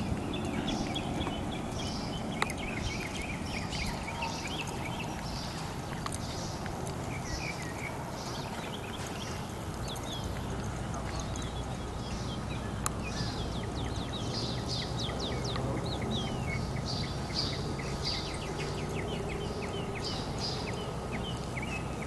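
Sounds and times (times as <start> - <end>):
birds chirping and calling: 0.0 - 22.0
horse hoofbeats on grass: 0.0 - 22.0.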